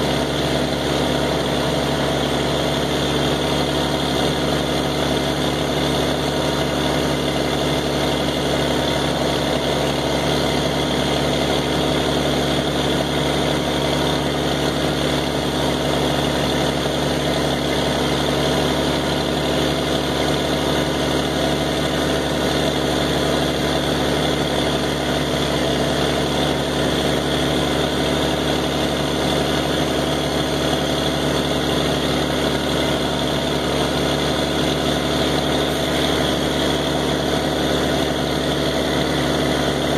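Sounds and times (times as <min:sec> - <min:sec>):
pump engine running: 0:00.0 - 0:39.9.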